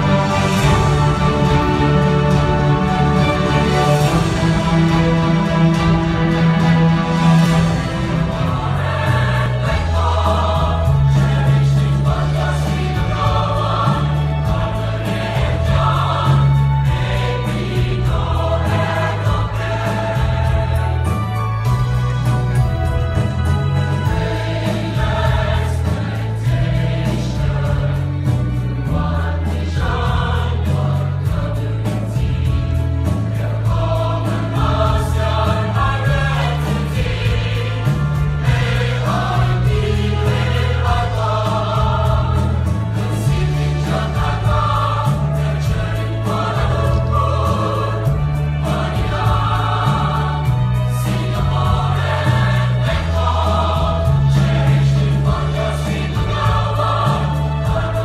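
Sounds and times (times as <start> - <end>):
choir singing: 0.0 - 58.0
deep bass notes: 0.0 - 58.0.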